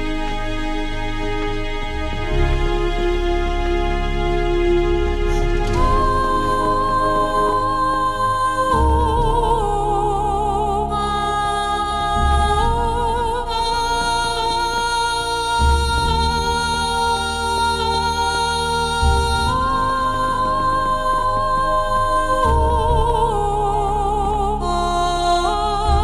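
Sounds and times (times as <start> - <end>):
slow background music: 0.0 - 26.0.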